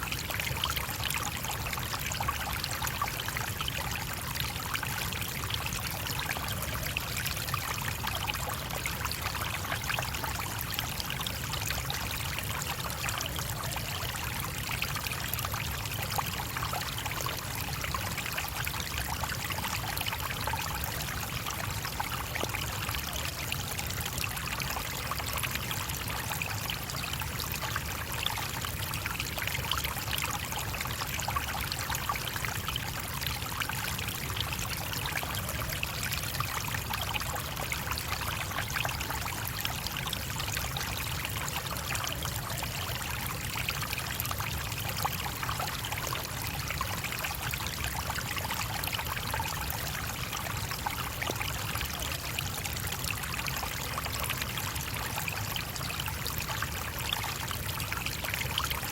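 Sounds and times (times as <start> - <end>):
stream trickling over stones: 0.0 - 58.9.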